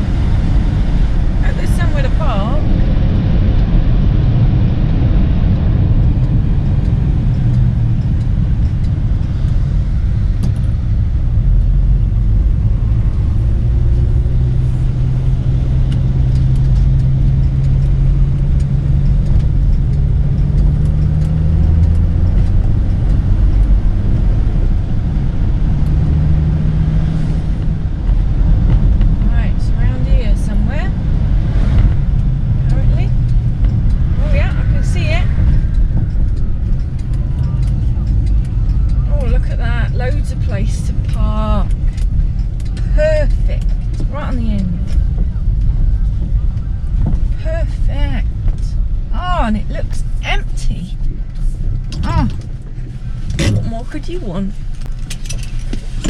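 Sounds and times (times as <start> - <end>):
car engine pulling: 0.0 - 56.0
road rumble: 0.0 - 56.0.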